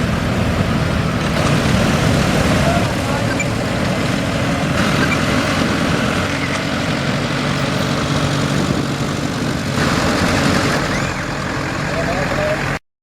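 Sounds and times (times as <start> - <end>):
tractor engine running: 0.0 - 12.8.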